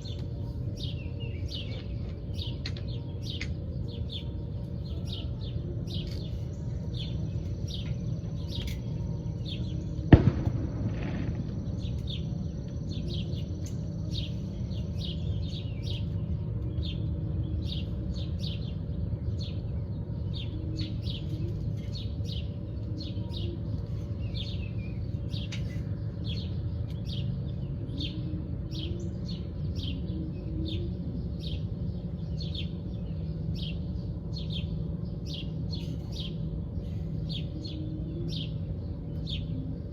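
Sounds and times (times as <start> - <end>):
low background rumble: 0.0 - 39.9
small songbirds chirping: 0.0 - 39.9.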